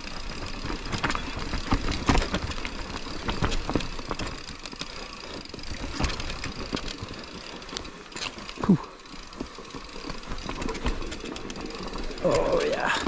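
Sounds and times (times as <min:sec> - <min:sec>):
bike tyres rolling over soil: 0:00.0 - 0:13.0
bike clicks knocks and rattles: 0:00.1 - 0:12.7.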